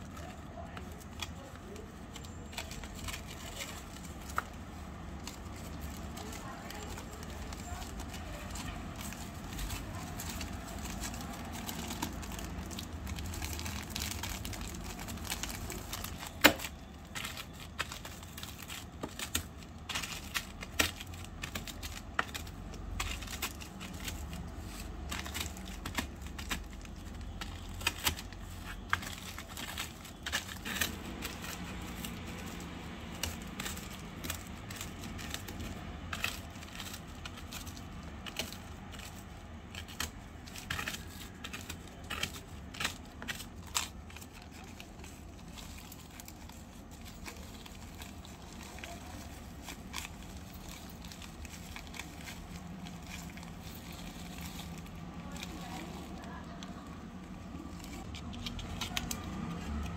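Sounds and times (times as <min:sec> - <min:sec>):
biscuits snapping and crushing: 0:00.0 - 0:59.9
plastic bag crinkling: 0:00.0 - 0:59.9.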